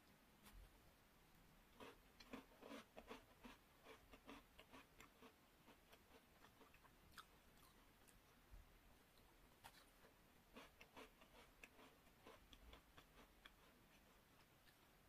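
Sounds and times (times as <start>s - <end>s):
crunchy biscuit chewing: 1.7s - 8.4s, 9.2s - 15.0s.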